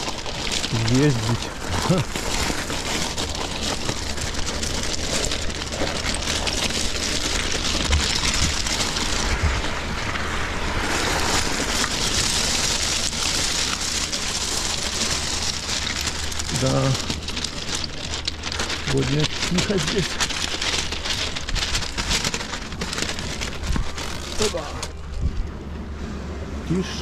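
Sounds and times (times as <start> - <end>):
bicycle tyres crunching pebbles: 0.0 - 26.0
low rumble: 0.0 - 27.0.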